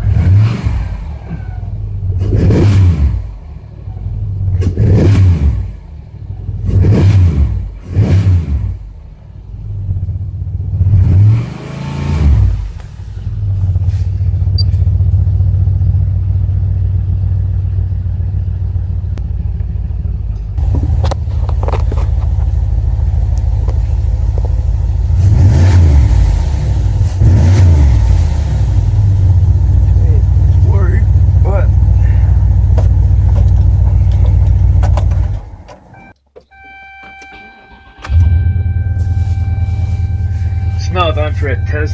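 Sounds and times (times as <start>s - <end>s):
car engine revving and idling: 0.0s - 36.1s, 37.8s - 41.9s.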